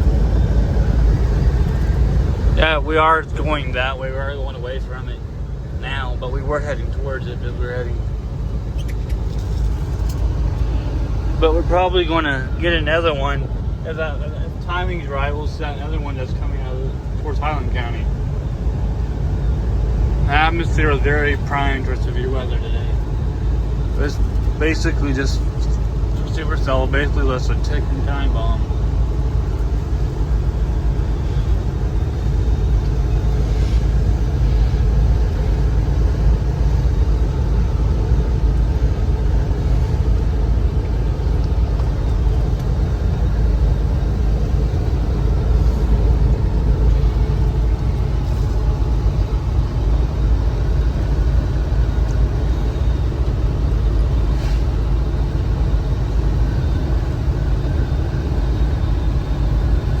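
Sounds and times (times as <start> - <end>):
car road and engine rumble: 0.0 - 60.0.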